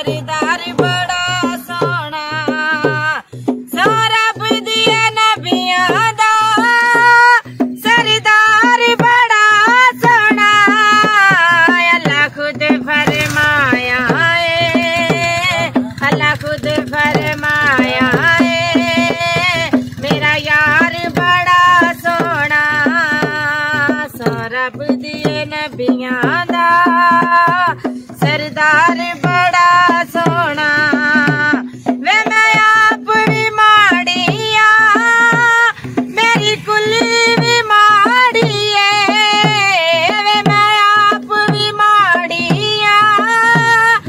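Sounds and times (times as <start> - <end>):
barrel hand drum beat: 0.0 - 44.0
woman singing: 0.0 - 44.0.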